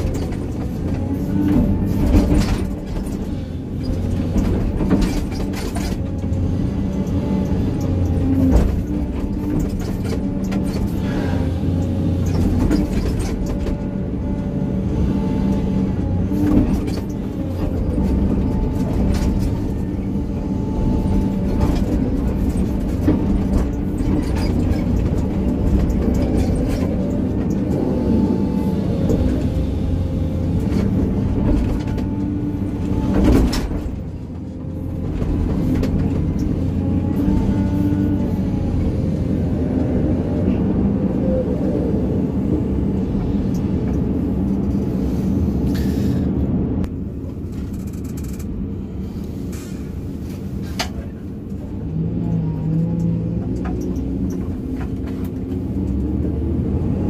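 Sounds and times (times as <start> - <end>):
excavator diesel engine working: 0.0 - 57.0.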